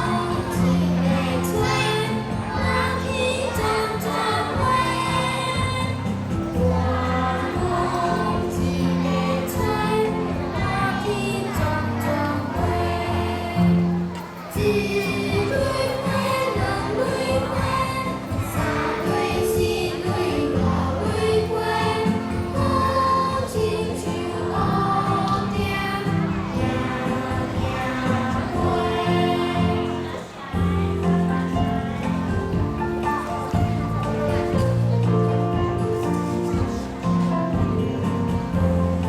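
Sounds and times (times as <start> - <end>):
choir singing: 0.0 - 34.6.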